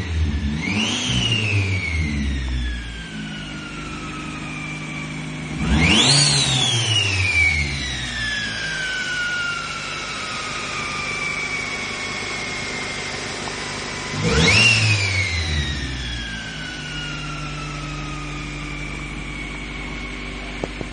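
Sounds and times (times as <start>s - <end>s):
car engine idling: 1.6s - 20.9s.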